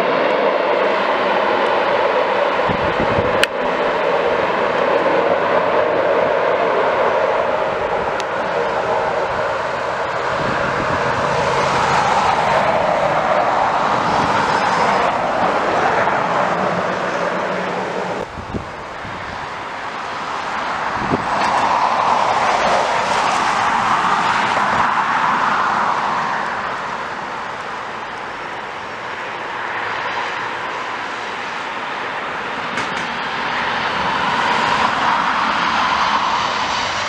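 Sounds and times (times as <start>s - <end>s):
airliner engine roar: 0.0s - 37.0s.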